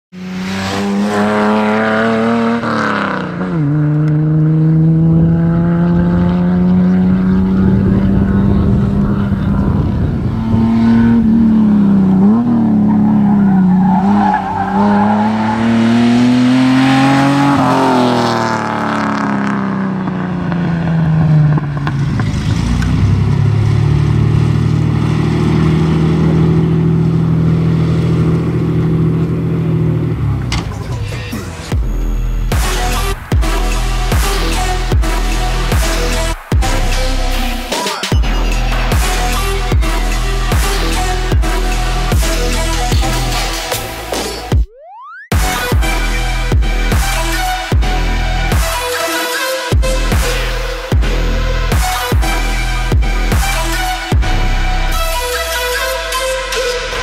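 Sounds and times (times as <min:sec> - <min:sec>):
car engine revving: 0:00.1 - 0:44.6, 0:45.3 - 0:57.0.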